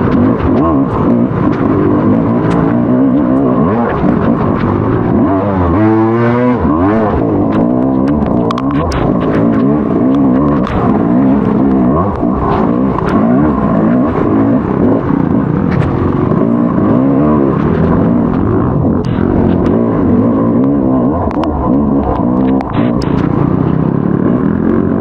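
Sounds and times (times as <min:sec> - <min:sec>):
motocross bike engine revving: 0:00.0 - 0:25.0
sharp clicks: 0:00.0 - 0:25.0.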